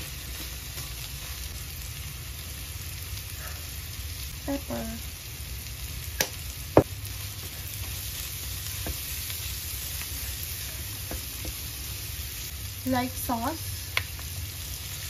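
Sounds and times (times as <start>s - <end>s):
fried rice sizzling: 0.0s - 15.0s.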